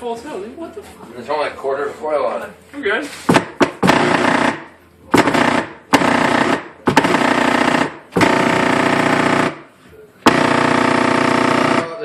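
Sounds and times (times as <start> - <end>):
harsh mains buzz from subwoofers: 1.6 - 12.0.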